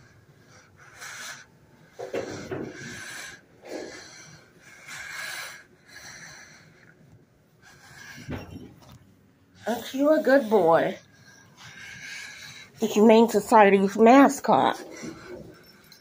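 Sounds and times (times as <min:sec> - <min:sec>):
soft breathing: 0:00.0 - 0:13.9, 0:14.5 - 0:16.0.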